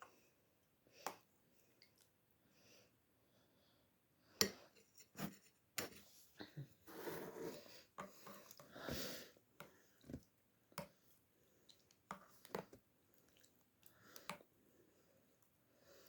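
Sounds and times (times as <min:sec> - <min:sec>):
soft chewing and mouth noises: 0:00.0 - 0:02.4, 0:04.4 - 0:16.0.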